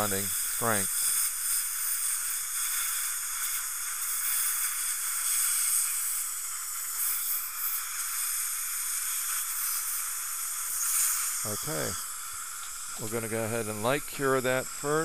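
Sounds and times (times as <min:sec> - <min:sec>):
dental suction hissing: 0:00.0 - 0:15.0.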